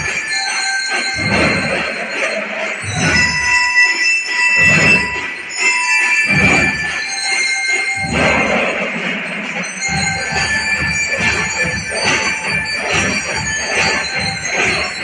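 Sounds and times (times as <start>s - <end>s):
high bell-like tones: 0.0s - 15.0s.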